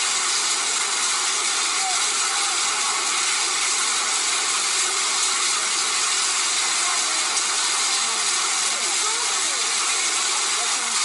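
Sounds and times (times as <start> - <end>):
hail and rain pelting water: 0.0 - 11.0.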